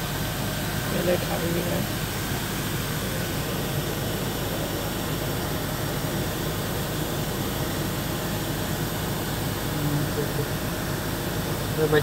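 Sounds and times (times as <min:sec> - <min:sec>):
low hum: 0:00.0 - 0:12.0
whooshing machine noise: 0:00.0 - 0:12.0.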